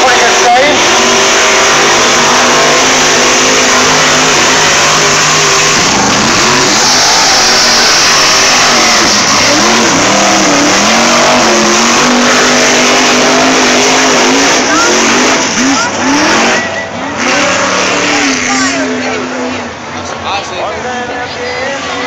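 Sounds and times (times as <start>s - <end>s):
buggy engine revving hard: 0.0s - 19.8s.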